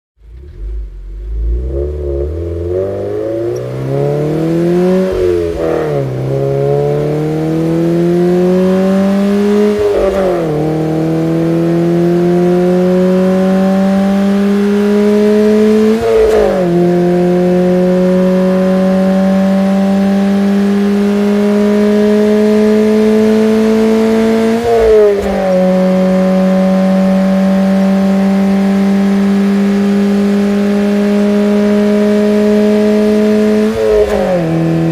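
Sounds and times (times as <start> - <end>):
car engine accelerating: 0.2 - 34.9.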